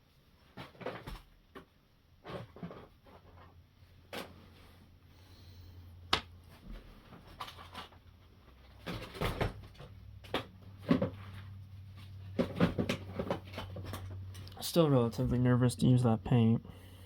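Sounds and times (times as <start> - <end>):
low steady hum: 1.9 - 17.0.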